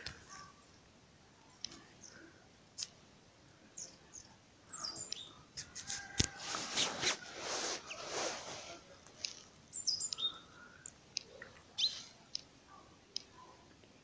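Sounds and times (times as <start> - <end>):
small birds chirping: 0.0 - 5.9, 6.6 - 14.0.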